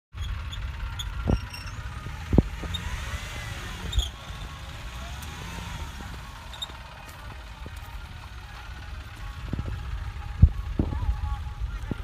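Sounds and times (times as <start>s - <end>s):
vehicle engines rumbling: 0.1s - 12.0s.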